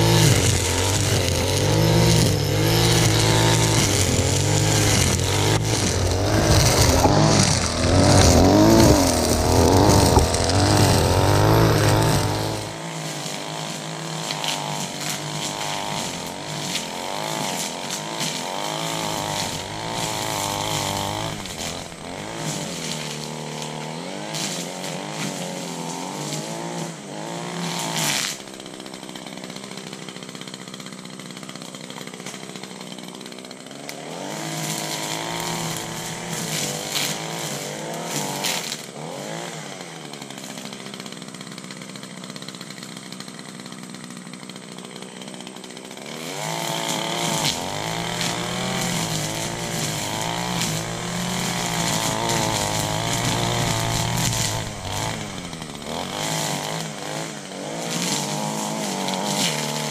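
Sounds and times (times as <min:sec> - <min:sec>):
string trimmer engine revving: 0:00.0 - 0:59.9.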